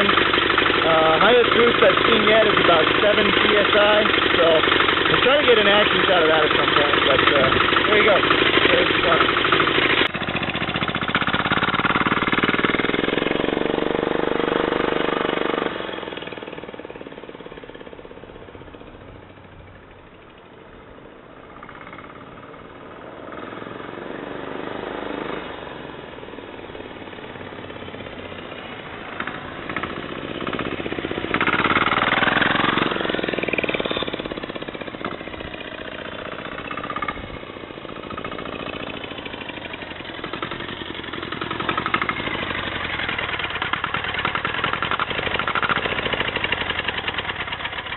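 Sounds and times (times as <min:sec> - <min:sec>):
diesel engine running: 0:00.0 - 0:20.6, 0:26.2 - 0:47.9.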